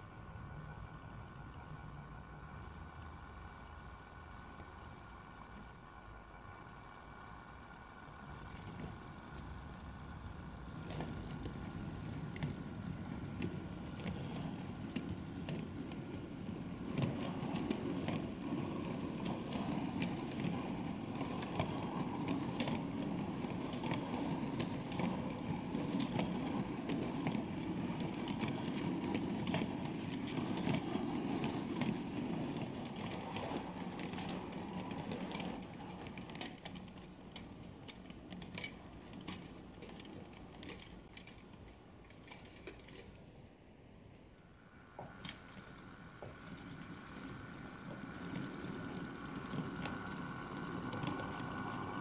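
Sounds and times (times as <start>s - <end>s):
model train wheels rumbling on rails: 0.0s - 52.0s
sharp clicks of wheels on track: 0.0s - 52.0s.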